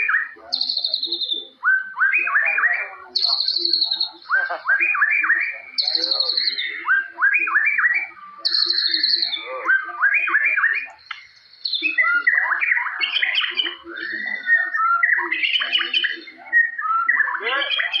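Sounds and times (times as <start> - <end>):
bird chattering phrases: 0.0 - 18.0
bird singing whistled notes: 0.0 - 18.0.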